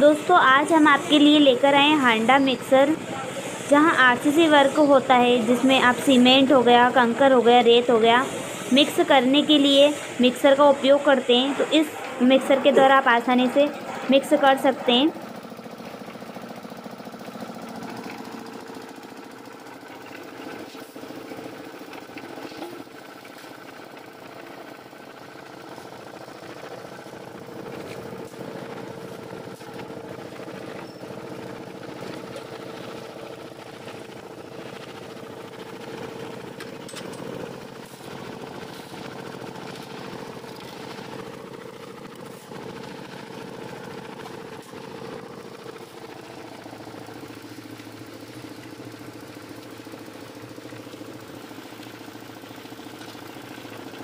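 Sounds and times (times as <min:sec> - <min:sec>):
concrete mixer engine humming: 0:00.0 - 0:54.0.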